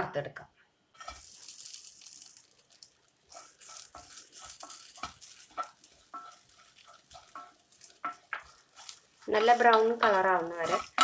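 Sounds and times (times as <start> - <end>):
spatula scraping a pan: 1.0 - 1.7, 2.7 - 11.0
light hiss of roasting: 1.0 - 11.0.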